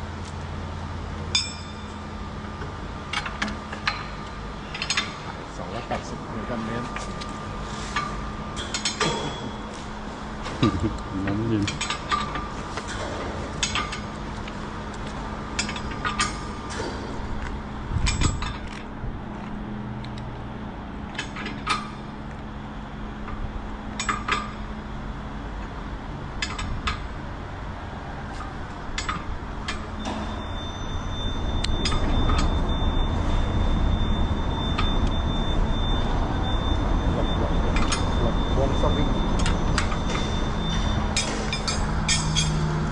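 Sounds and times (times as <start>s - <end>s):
low hum: 0.0s - 42.9s.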